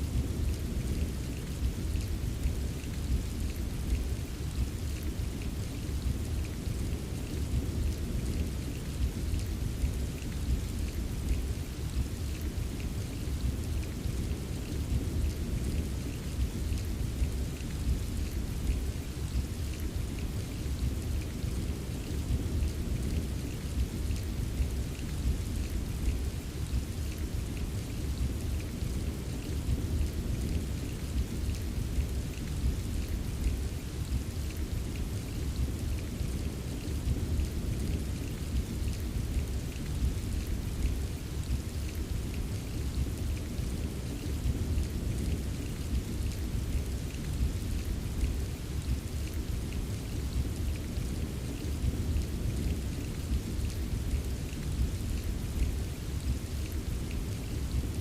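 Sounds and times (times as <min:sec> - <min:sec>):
rain pattering: 0:00.0 - 0:58.0
low rumble of thunder: 0:00.1 - 0:58.0.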